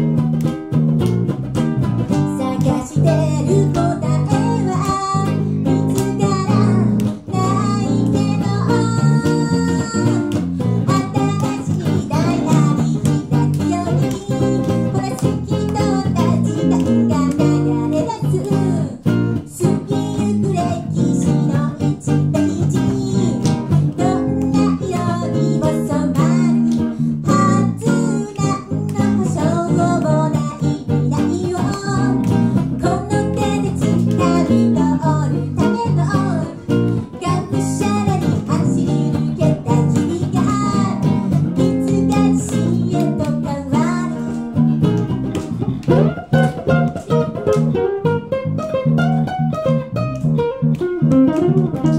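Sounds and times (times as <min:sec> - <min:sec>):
guitars playing: 0:00.0 - 0:51.9
woman singing into microphone: 0:02.2 - 0:44.6.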